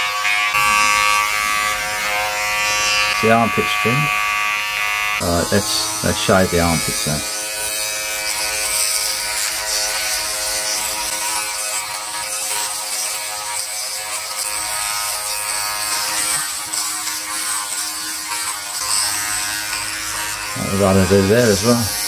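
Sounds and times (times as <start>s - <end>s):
electric groomer buzzing: 0.0s - 22.0s.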